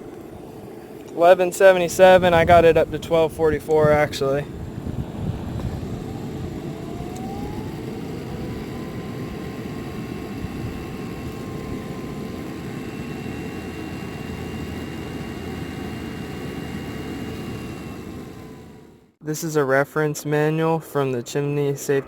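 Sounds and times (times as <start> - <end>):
exhaust air rushing from vent: 0.0 - 19.0
faint whine: 0.0 - 19.2.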